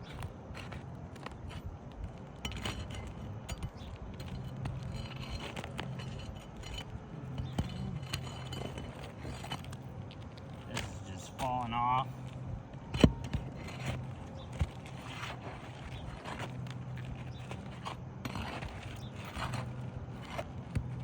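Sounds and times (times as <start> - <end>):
shingles being pried apart: 0.0 - 21.0.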